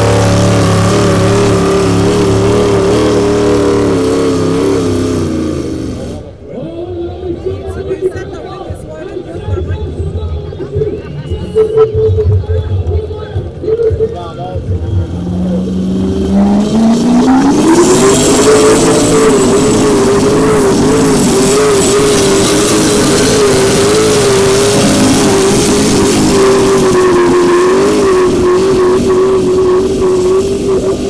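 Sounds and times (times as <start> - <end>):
tractor engine revving: 0.0 - 6.8, 9.1 - 31.0.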